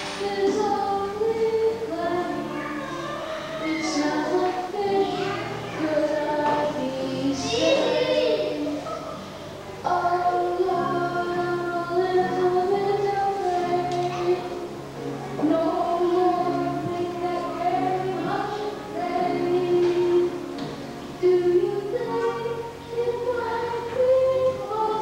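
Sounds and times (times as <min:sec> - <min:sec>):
child singing: 0:00.0 - 0:09.0, 0:09.8 - 0:14.7, 0:15.3 - 0:20.5, 0:21.2 - 0:25.0
musical accompaniment: 0:00.0 - 0:25.0.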